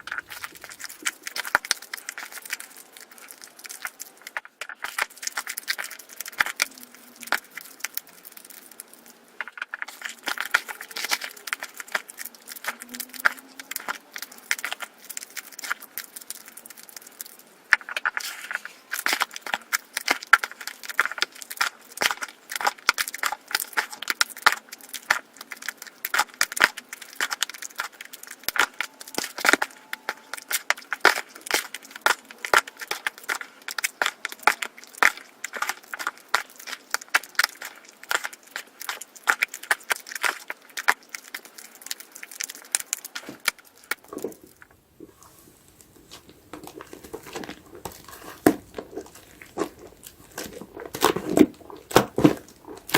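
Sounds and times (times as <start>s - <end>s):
soap foam crackling: 0.0s - 52.9s.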